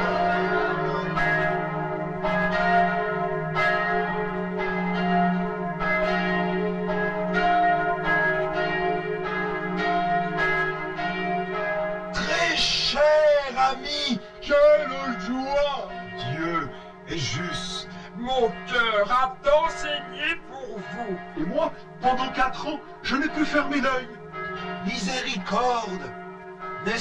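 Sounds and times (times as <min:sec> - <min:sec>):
church bells pealing: 0:00.0 - 0:27.0.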